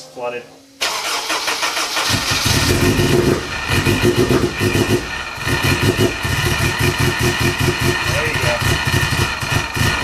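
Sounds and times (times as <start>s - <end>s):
car engine struggling to start: 0.8s - 10.0s.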